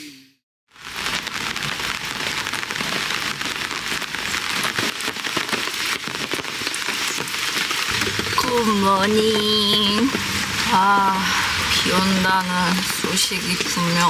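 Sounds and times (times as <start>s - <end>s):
rain on a tarp: 0.7s - 14.0s.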